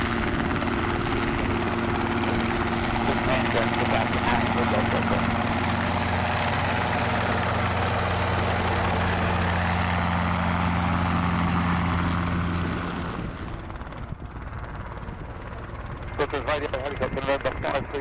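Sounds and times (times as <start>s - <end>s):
helicopter running: 0.0s - 18.0s.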